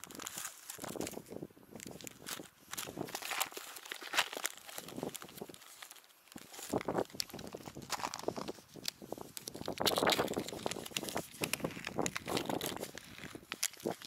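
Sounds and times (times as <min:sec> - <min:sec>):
plastic packets crinkling: 0:00.0 - 0:14.0.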